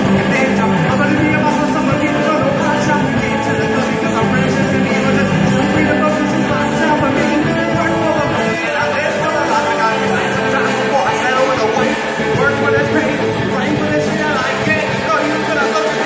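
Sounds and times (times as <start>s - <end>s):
bass: 0.0s - 16.0s
drums: 0.0s - 16.0s
electric guitars: 0.0s - 16.0s
person singing: 0.0s - 16.0s.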